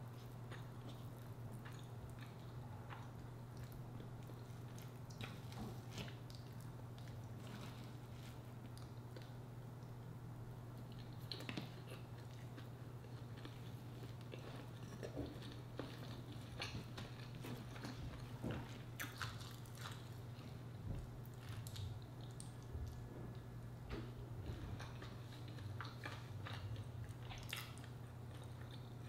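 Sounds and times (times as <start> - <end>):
person chewing food: 0.1 - 10.0, 10.7 - 29.0.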